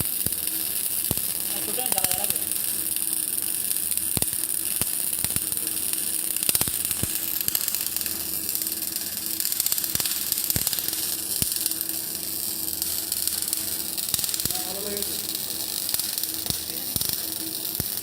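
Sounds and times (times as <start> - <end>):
sharp welding pops: 0.0 - 18.0
welding arc crackling: 0.0 - 18.0.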